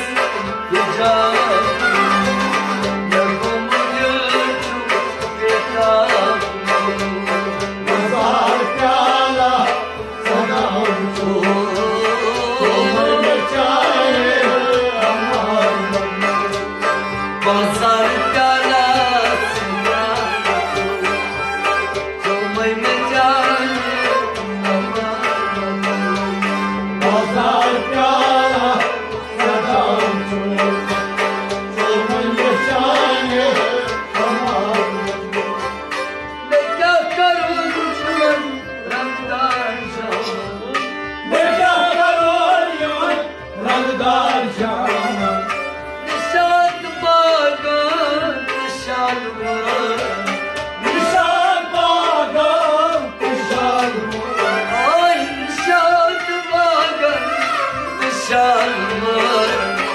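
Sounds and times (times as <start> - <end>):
hand drums: 0.0 - 59.9
harmonium: 0.0 - 59.9
man singing: 0.0 - 59.9
plucked string instrument: 0.0 - 59.9.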